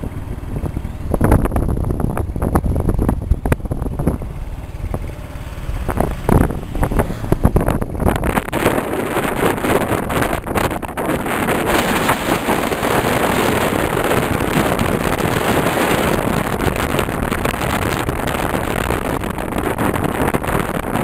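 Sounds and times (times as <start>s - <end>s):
vehicle road and engine noise: 0.0s - 21.0s
wind rushing over microphone: 0.0s - 21.0s.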